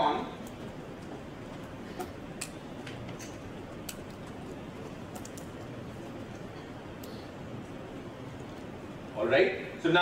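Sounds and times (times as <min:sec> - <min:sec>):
room hiss: 0:00.0 - 0:10.0.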